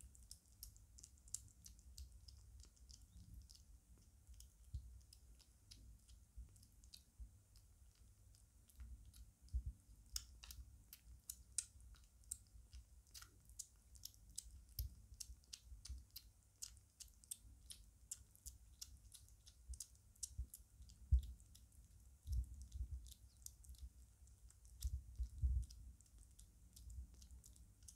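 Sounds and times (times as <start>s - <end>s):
kitten chewing food: 0.0s - 27.9s.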